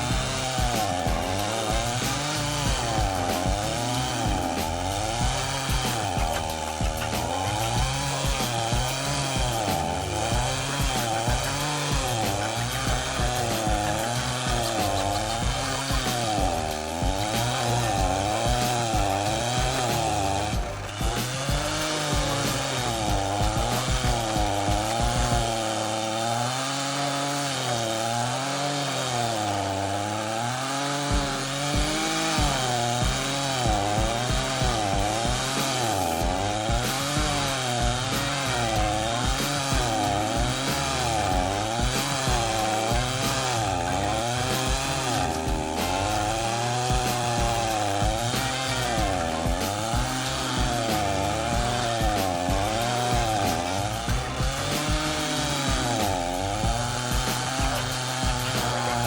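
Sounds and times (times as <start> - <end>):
chainsaw grinding tree stump: 0.0 - 59.0.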